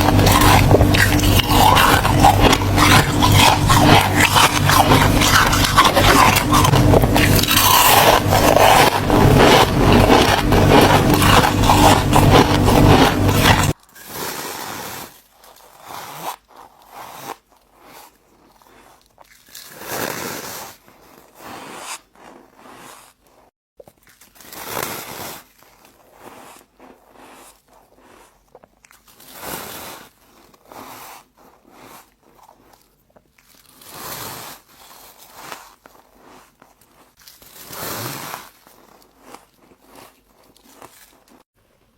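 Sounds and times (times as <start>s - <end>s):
ice being chewed crunchily: 0.0s - 41.5s.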